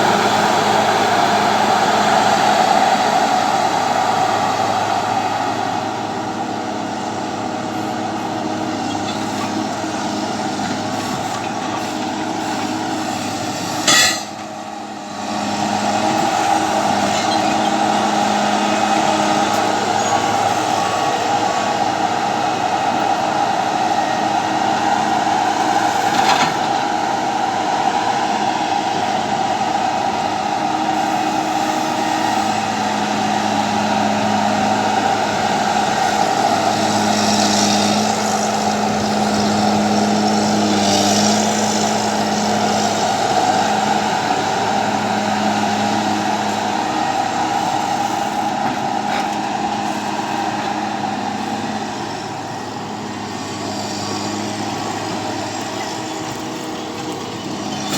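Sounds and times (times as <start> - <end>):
heavy machine engine running: 0.0 - 57.9.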